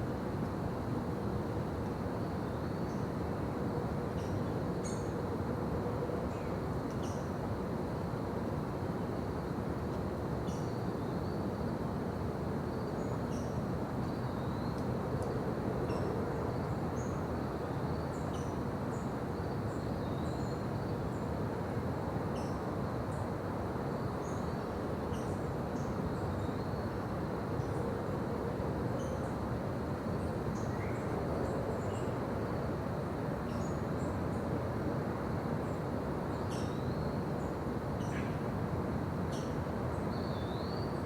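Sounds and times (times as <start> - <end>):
faint high insect tone: 0.0 - 41.0.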